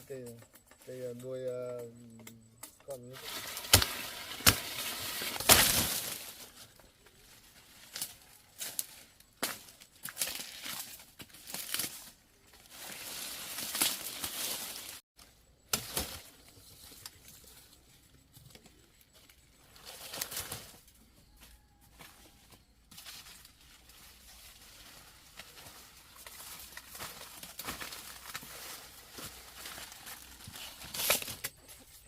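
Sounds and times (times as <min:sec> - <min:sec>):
rustling and crinkling: 0:00.3 - 0:32.0.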